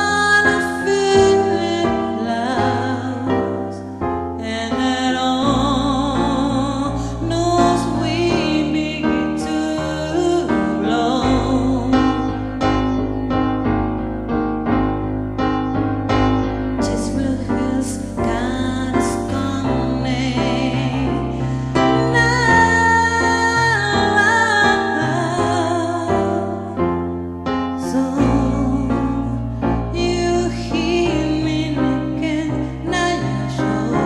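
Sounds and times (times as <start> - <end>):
person singing: 0.0 - 27.0, 27.6 - 34.0
piano chords: 0.0 - 34.0.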